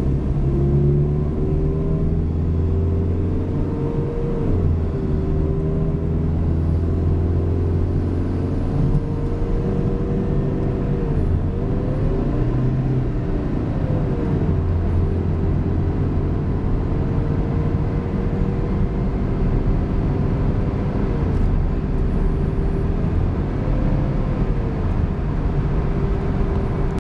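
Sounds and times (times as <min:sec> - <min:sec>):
car engine droning: 0:00.0 - 0:27.0
road and tyre rumble: 0:00.0 - 0:27.0.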